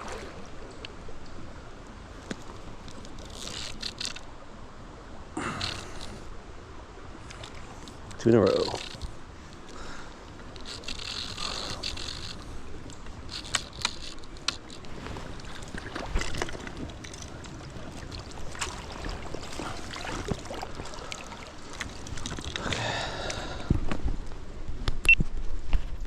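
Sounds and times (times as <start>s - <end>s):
water sloshing and splashing: 0.0s - 4.6s, 7.0s - 24.1s.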